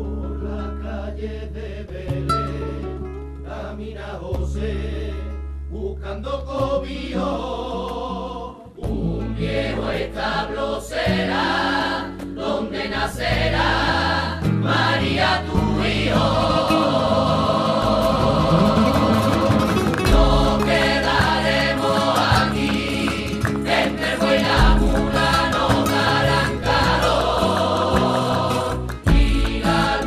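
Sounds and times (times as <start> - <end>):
choir singing with accompaniment: 0.0 - 30.0.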